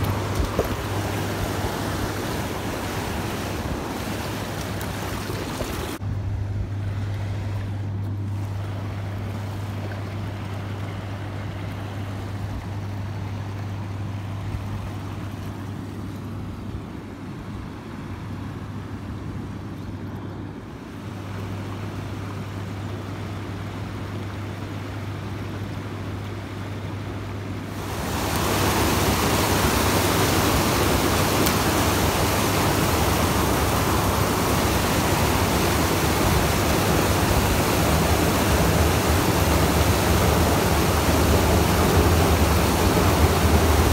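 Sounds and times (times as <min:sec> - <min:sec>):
rushing river water: 0:00.0 - 0:06.0, 0:08.3 - 0:43.9.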